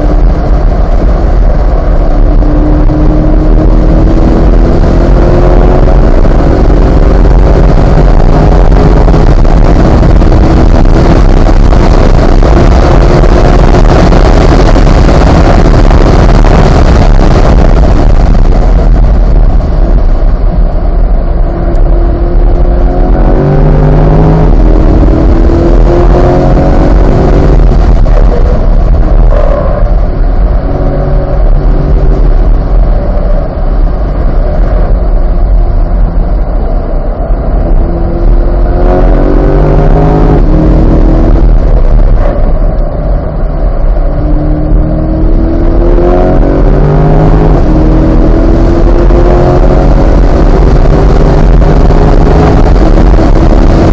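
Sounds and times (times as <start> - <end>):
car engine accelerating with upshifts: 0.0 - 53.9
wind and road noise rumble: 0.0 - 53.9.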